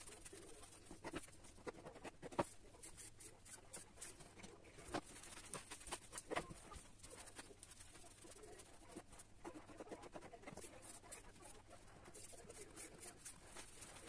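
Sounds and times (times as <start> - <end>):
hands rolling dough on board: 0.0 - 14.0.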